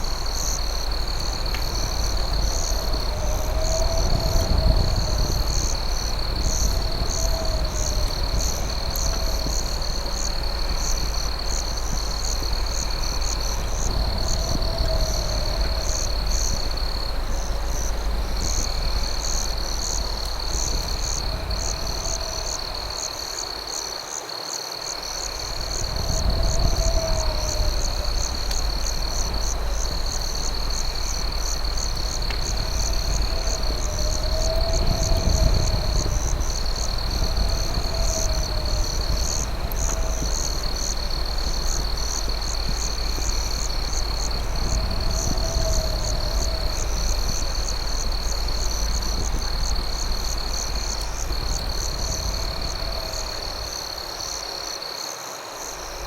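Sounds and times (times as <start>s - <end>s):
steady low rumble: 0.0s - 23.4s, 25.2s - 54.3s
crickets trilling: 0.0s - 56.0s.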